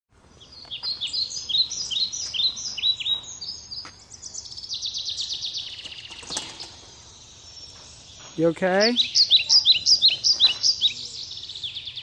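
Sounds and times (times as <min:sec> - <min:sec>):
songbirds chirping: 0:00.1 - 0:12.0.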